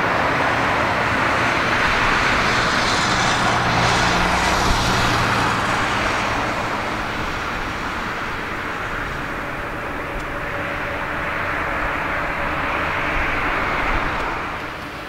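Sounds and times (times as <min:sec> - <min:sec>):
jet airliner engine noise: 0:00.0 - 0:15.0.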